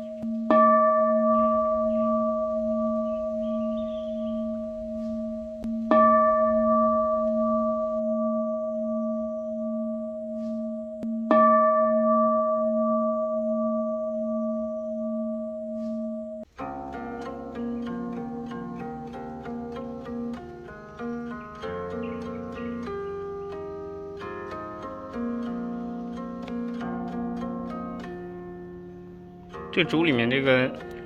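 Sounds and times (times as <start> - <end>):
bell ringing with slow wobble: 0.0 - 31.0.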